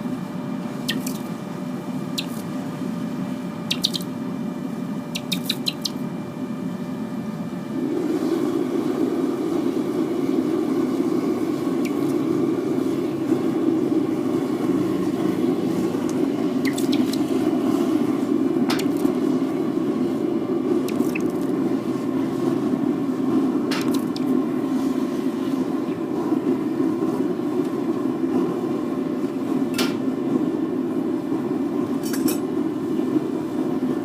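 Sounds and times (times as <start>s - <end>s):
propane burner roaring: 0.0s - 34.0s.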